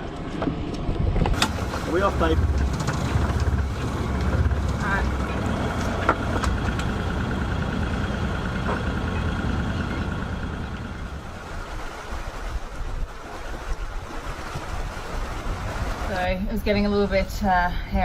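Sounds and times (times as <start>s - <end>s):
boat engine running: 0.0s - 17.3s.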